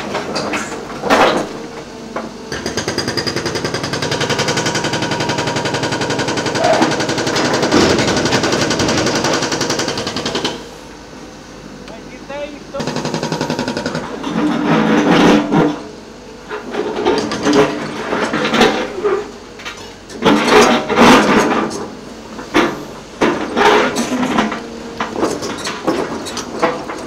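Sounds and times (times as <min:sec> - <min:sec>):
excavator clanking and scraping: 0:00.0 - 0:10.8, 0:12.4 - 0:27.0.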